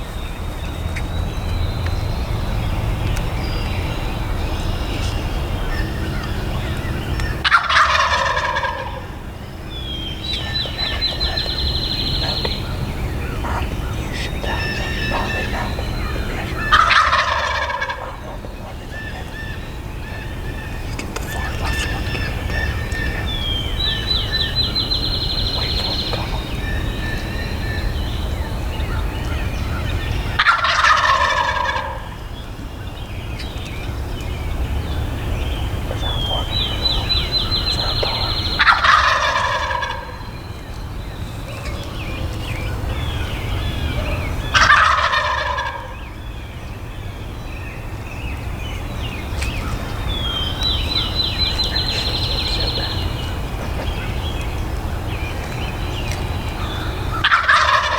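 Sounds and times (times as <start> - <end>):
turkey gobbling: 0.0 - 46.7, 48.3 - 57.9
steady low rumble: 0.0 - 57.9.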